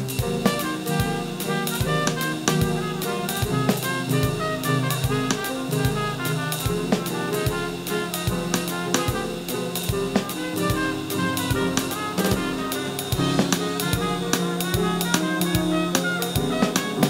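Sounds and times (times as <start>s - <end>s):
drum kit: 0.0s - 17.0s
jazz big band playing: 0.0s - 17.0s
trumpet playing: 0.0s - 17.0s.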